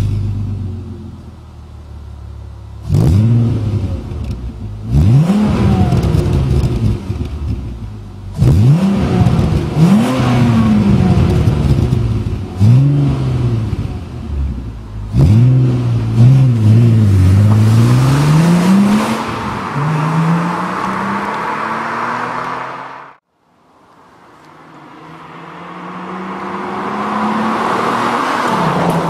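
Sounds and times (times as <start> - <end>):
car engine revving: 2.7 - 23.2, 24.1 - 29.0.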